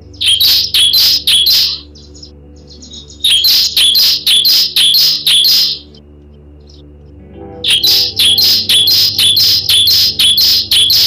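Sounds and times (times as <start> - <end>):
bird high rapid chirps: 0.0 - 6.0, 7.6 - 11.0
steady low drone: 0.0 - 11.0.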